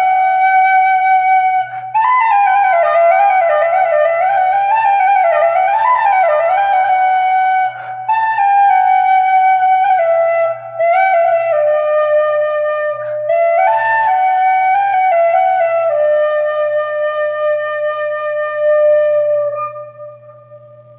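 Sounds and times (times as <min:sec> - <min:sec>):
flute playing slow melody: 0:00.0 - 0:20.9.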